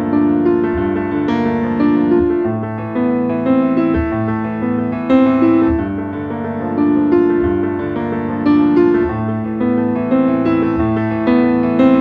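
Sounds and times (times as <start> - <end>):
gentle piano piece: 0.0 - 12.0.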